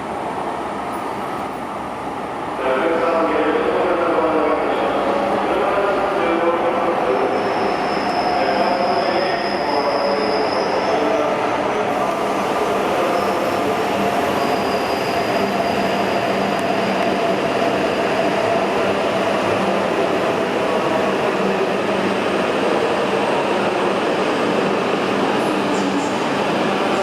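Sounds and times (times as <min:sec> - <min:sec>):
train running rumble and whine: 0:00.0 - 0:27.0.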